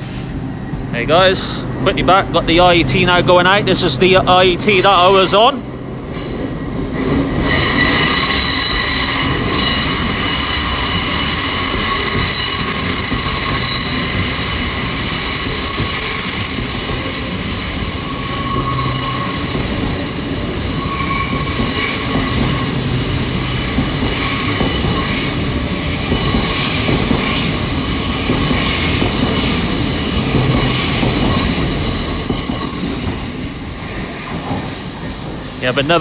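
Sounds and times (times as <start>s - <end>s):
low train rumble: 0.0s - 36.0s
train wheels squealing: 6.1s - 36.0s.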